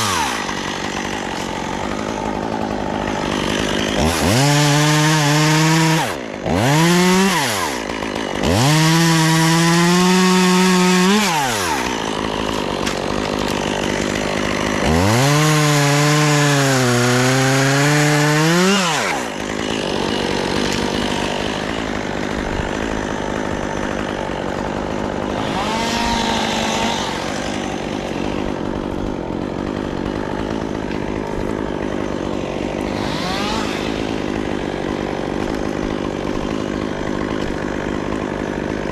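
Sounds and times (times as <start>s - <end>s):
chainsaw revving through wood: 0.0s - 38.9s.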